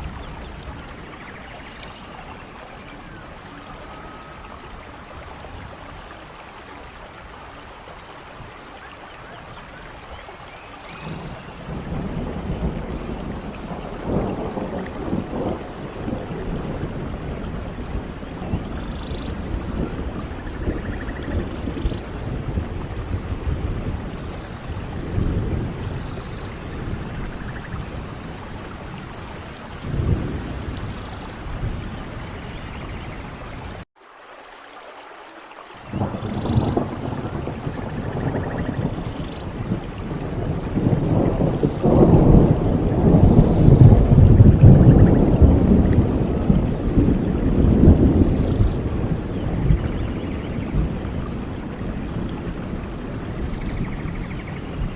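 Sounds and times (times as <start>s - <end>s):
low rolling thunder: 0.0s - 6.4s, 10.8s - 33.8s, 35.9s - 54.9s
steady rain: 0.0s - 54.9s.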